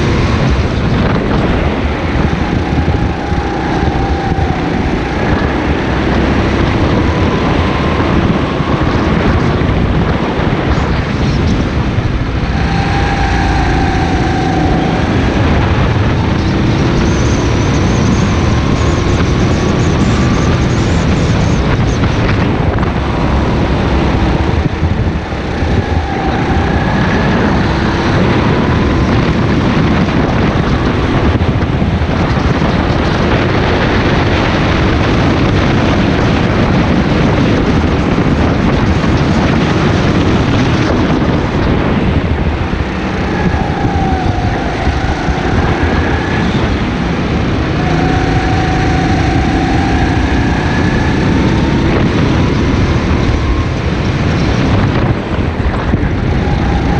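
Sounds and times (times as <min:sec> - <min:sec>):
go-kart engine running: 0:00.0 - 0:56.9
wind rush: 0:00.0 - 0:56.9.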